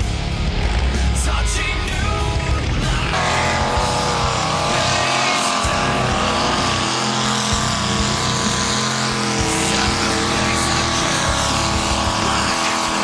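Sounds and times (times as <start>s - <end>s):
dense rushing noise: 0.0s - 13.0s
truck engine revving high: 0.0s - 13.0s.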